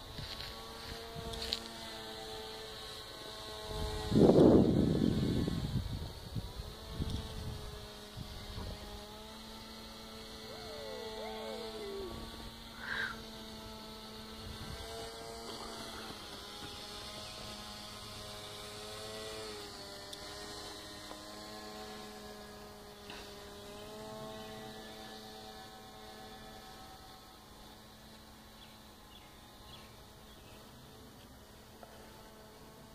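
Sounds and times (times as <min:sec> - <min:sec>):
propeller motor humming: 0:00.0 - 0:32.9.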